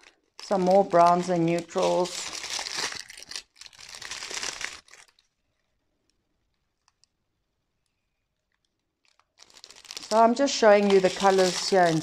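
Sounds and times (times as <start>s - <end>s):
plastic bags crinkling: 0.0s - 7.2s, 8.5s - 12.0s.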